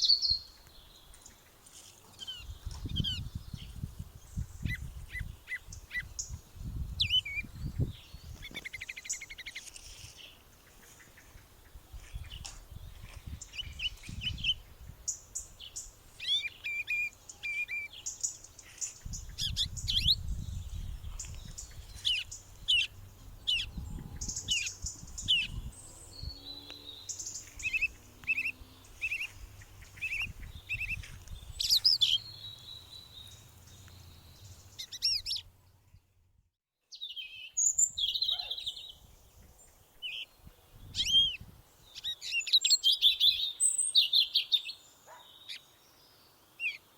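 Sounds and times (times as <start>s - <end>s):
songbirds chirping: 0.0s - 36.2s, 36.9s - 46.9s.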